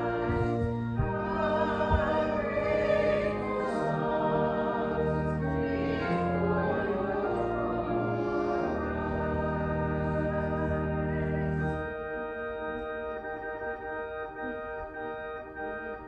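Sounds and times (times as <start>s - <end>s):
organ music: 0.0s - 16.0s.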